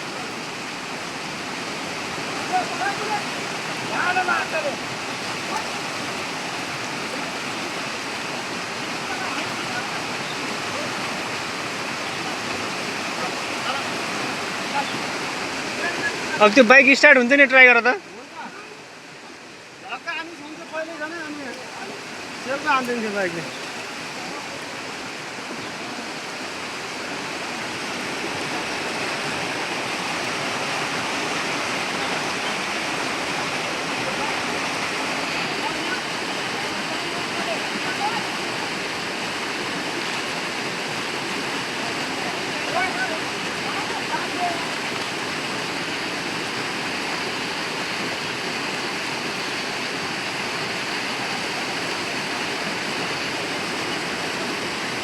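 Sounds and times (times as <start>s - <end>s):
flooded river rushing: 0.0s - 55.0s.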